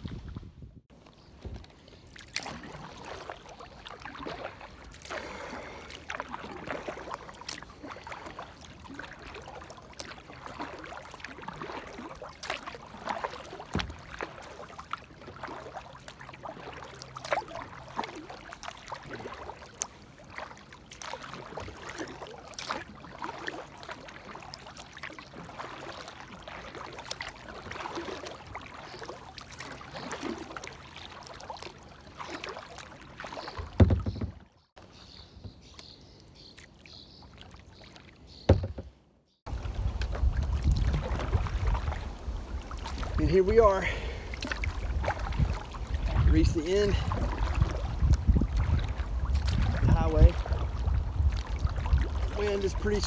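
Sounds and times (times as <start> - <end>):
paddle splashing in water: 0.0 - 53.0.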